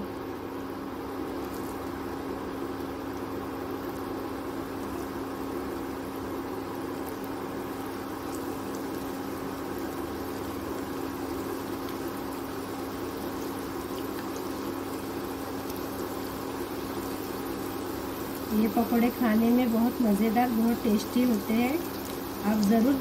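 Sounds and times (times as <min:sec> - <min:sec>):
food frying in hot oil: 0:00.0 - 0:23.0.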